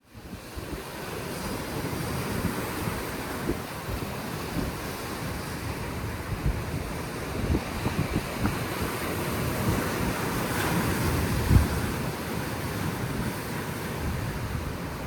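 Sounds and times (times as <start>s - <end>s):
sea surf washing on shore: 0.1s - 15.0s
wind buffeting microphone: 0.1s - 15.0s.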